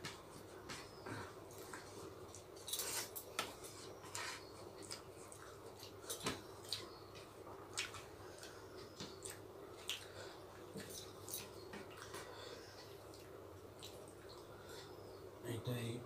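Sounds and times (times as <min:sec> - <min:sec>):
mouths chewing: 0:00.4 - 0:15.2.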